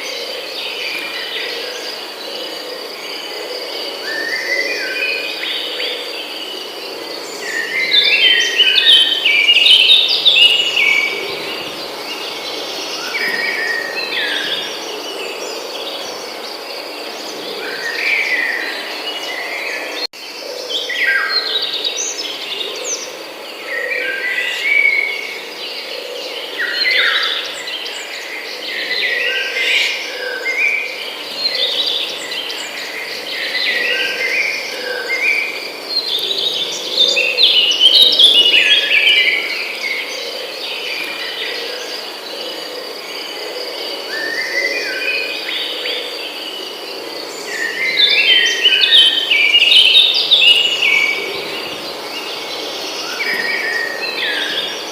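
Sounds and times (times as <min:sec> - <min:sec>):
high insect drone: 0:00.0 - 0:54.9
songbirds singing and chirping: 0:00.0 - 0:54.9.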